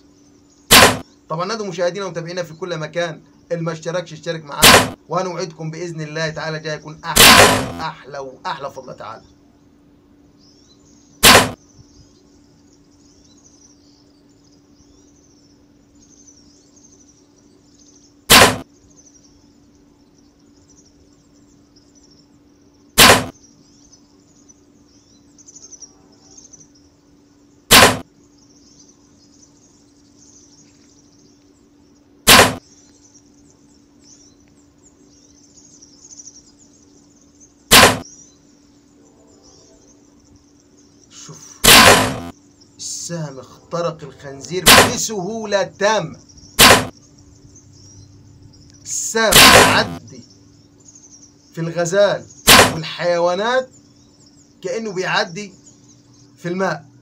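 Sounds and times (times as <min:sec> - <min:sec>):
faint low hum: 0:00.0 - 0:57.0
high outdoor hiss: 0:00.0 - 0:57.0.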